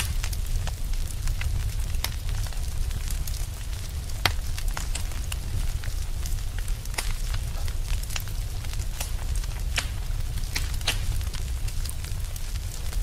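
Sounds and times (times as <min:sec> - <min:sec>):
log fire crackling and popping: 0:00.0 - 0:13.0
low rumble of flame: 0:00.0 - 0:13.0.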